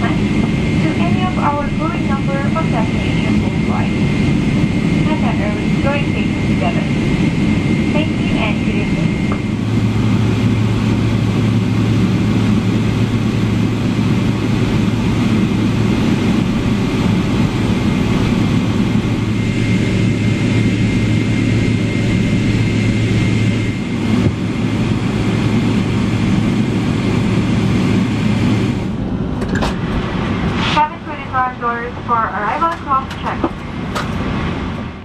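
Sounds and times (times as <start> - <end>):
jet engines idling: 0.0 - 35.0.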